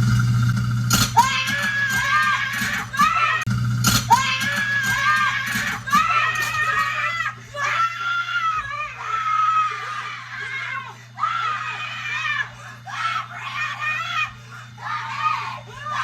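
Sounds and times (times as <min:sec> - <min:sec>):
low hum: 0:00.0 - 0:16.0
woman screaming: 0:01.1 - 0:03.5, 0:04.1 - 0:16.0.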